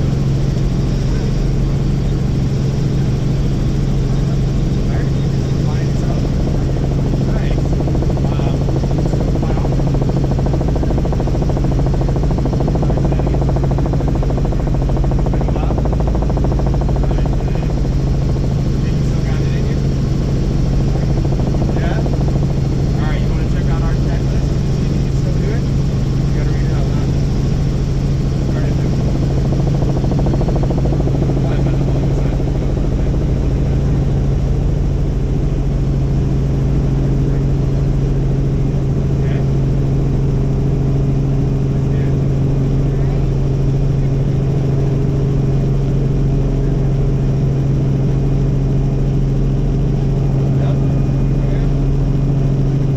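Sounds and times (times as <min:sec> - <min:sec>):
helicopter rotor drone: 0:00.0 - 0:52.9.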